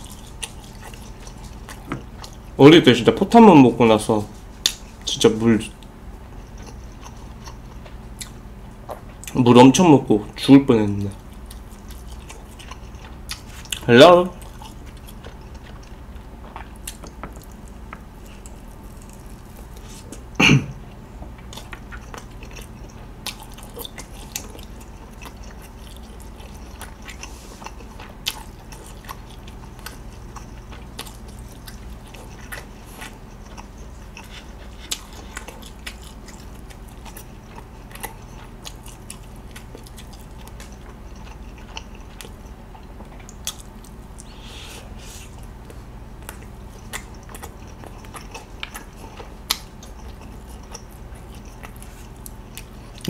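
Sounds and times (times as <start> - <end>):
chewing with wet mouth clicks: 0.0 - 2.6, 4.6 - 5.1, 5.7 - 9.4, 11.0 - 44.4, 45.3 - 53.0.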